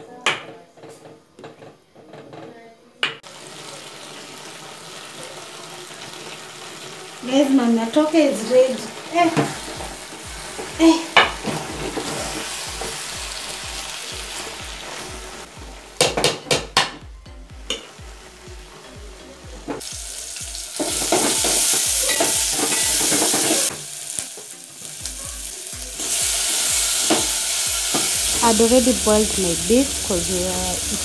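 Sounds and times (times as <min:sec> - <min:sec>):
stew sizzling in a pot: 0:03.2 - 0:16.8, 0:17.5 - 0:31.0.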